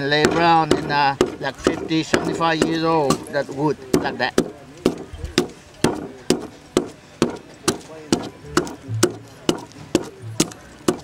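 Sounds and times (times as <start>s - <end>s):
tool chopping wood: 0.2s - 3.3s, 3.9s - 11.0s.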